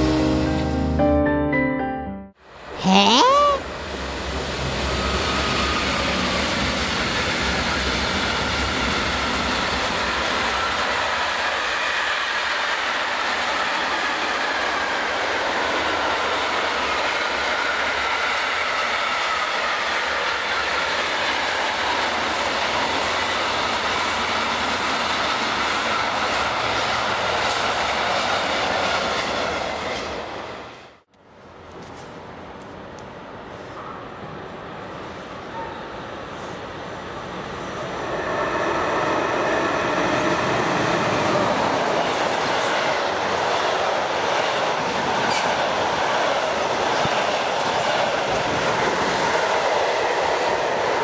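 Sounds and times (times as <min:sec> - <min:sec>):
train wheels rushing on rails: 0:03.6 - 0:31.1, 0:31.7 - 0:51.0.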